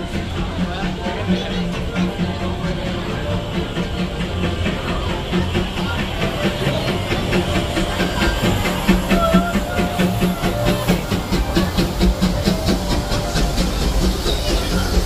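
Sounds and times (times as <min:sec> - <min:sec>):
steam hiss: 0:00.0 - 0:15.0
steam locomotive rumble: 0:00.0 - 0:15.0.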